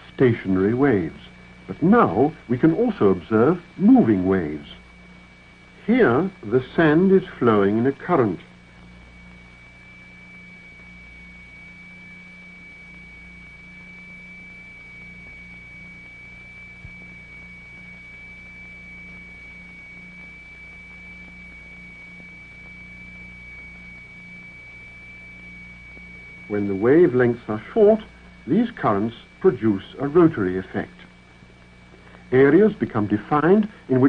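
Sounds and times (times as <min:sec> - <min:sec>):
low mains hum: 0:00.0 - 0:34.0
steady high-pitched tone: 0:00.0 - 0:34.0
tape hiss: 0:00.0 - 0:34.0.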